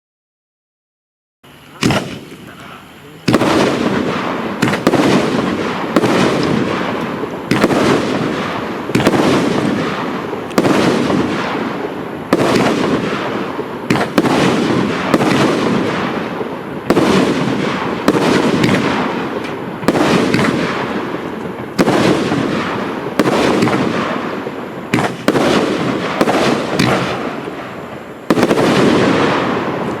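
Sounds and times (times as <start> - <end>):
firework cake bangs: 1.7 - 30.0.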